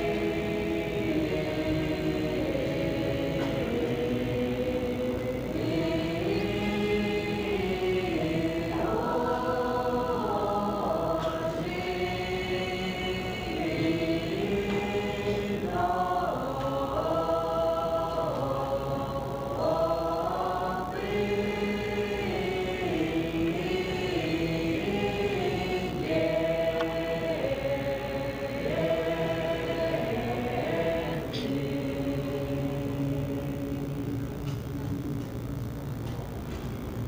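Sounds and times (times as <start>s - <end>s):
choir singing unaccompanied: 0.0s - 35.7s.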